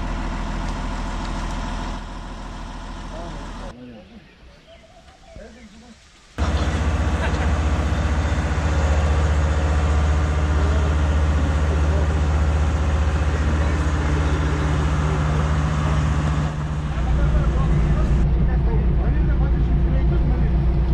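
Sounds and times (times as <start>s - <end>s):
paver diesel engine running: 0.0s - 3.7s, 6.4s - 20.9s.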